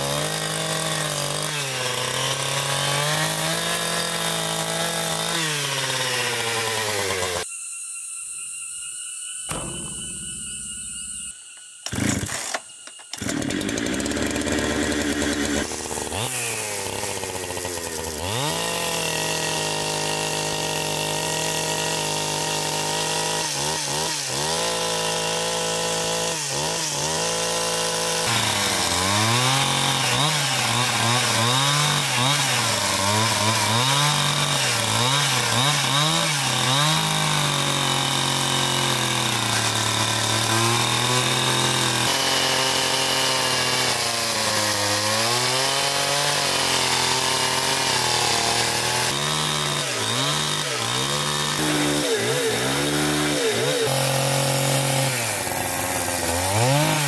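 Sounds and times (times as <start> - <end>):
chainsaw pull-started: 0.0 - 7.4, 11.8 - 57.0
chainsaw whining and cutting log: 0.0 - 7.5, 9.5 - 57.0.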